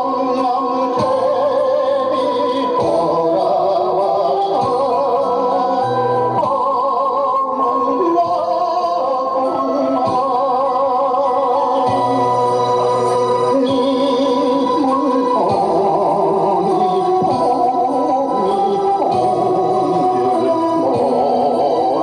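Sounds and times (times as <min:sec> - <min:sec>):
person singing with vibrato: 0:00.0 - 0:22.0.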